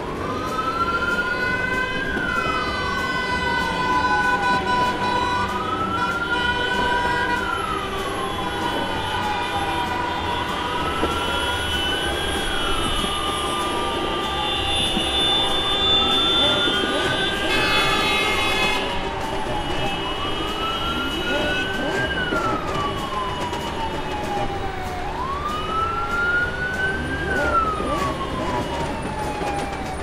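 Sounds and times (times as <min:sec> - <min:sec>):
emergency vehicle siren wailing: 0:00.0 - 0:30.0.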